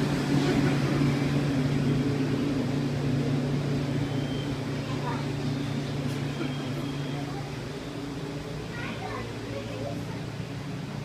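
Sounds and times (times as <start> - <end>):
machinery hum: 0.0 - 11.0
noisy wash: 0.0 - 11.0.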